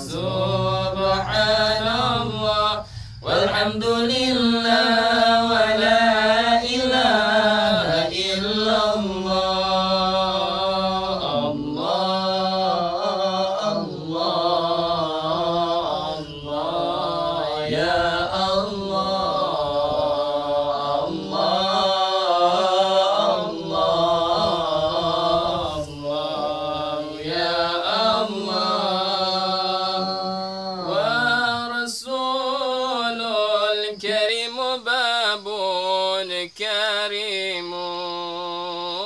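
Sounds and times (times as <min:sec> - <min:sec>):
men chanting: 0:00.0 - 0:39.0.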